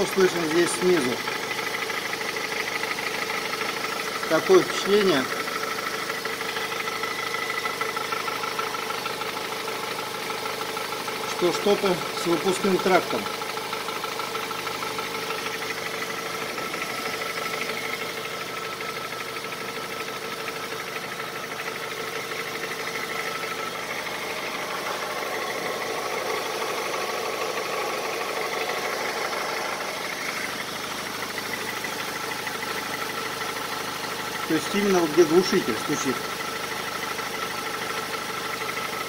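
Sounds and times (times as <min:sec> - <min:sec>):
car engine idling: 0:00.0 - 0:39.0
rapid exhaust knocking: 0:00.0 - 0:39.0.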